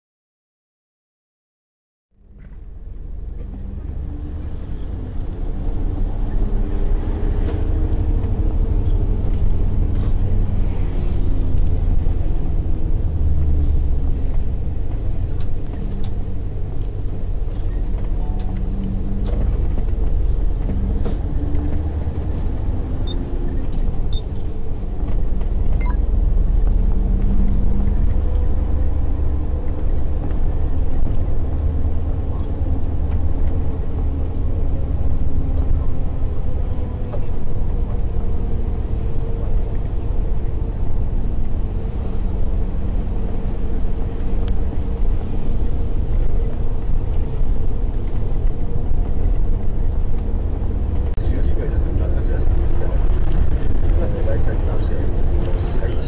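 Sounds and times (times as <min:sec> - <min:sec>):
car engine and tyres rumbling: 0:02.1 - 0:56.0.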